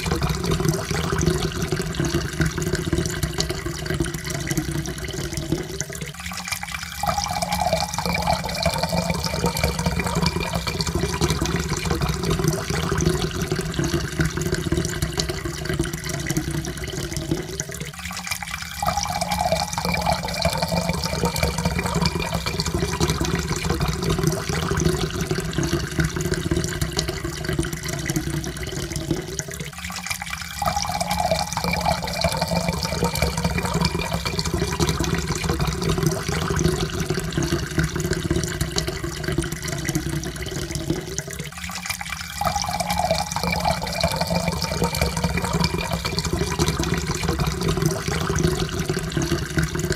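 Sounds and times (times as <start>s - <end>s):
water pouring into a cup: 0.0s - 49.9s.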